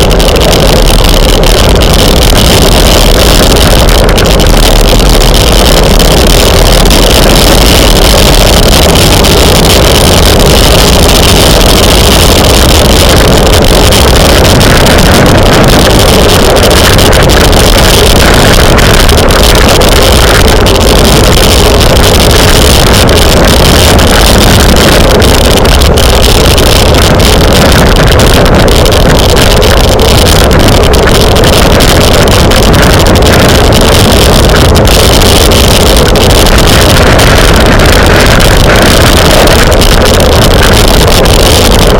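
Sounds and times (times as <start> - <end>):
wind noise on microphone: 0.0 - 41.9.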